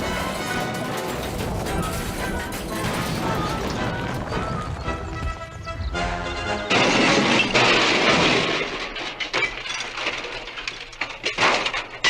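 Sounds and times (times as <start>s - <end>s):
crash of breaking wood: 0.0s - 4.5s, 6.6s - 12.0s
debris clattering: 0.0s - 5.6s, 6.2s - 12.0s.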